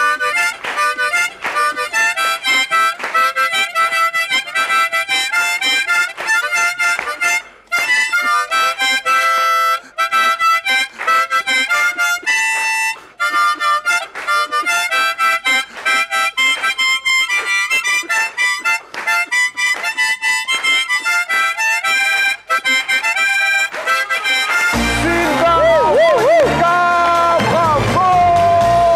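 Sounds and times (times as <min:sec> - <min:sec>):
harmonica melody: 0:00.0 - 0:28.9.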